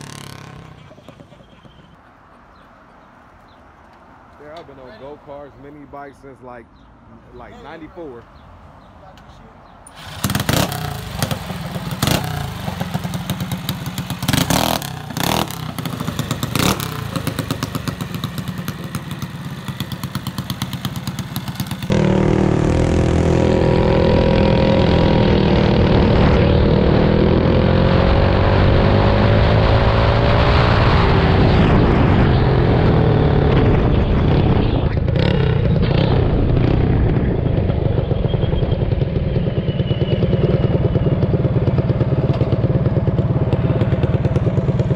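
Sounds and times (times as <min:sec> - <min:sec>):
mini bike engine revving: 0:00.0 - 0:02.0, 0:09.9 - 0:31.4, 0:32.3 - 0:44.9.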